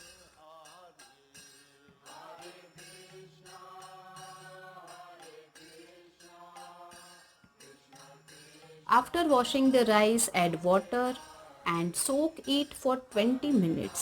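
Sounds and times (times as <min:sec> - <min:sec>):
devotional chant singing: 0:00.0 - 0:14.0.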